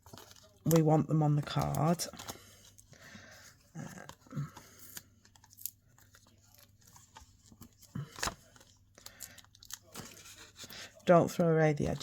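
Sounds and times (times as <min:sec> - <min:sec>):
paper backing crackling: 0:00.0 - 0:12.0.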